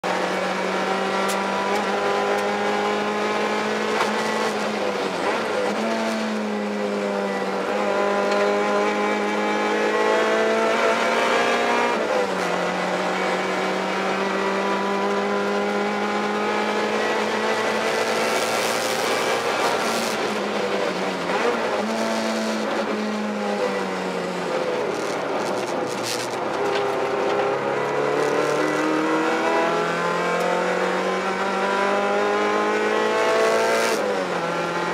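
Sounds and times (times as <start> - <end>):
car engine revving at speed: 0.0 - 34.9.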